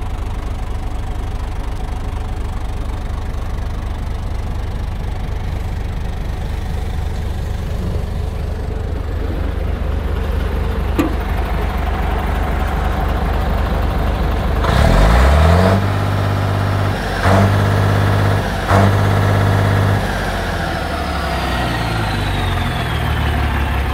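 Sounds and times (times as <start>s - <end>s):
truck diesel engine idling and revving: 0.0s - 23.9s
high turbo whine: 3.9s - 23.9s.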